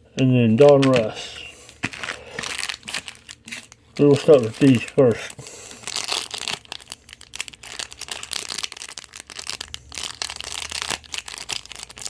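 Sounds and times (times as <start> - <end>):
plastic wrapping crinkling: 0.4 - 12.0.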